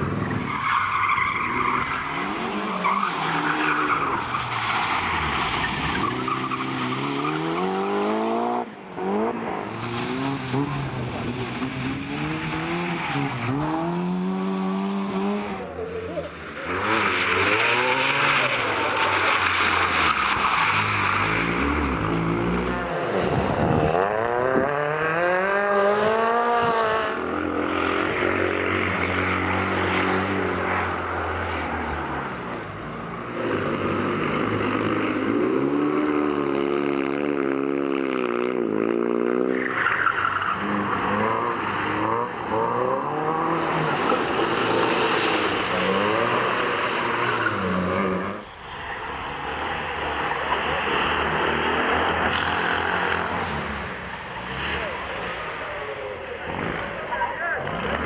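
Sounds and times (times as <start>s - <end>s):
rally car engines revving: 0.0s - 58.0s
tyres skidding on wet tarmac: 0.0s - 58.0s.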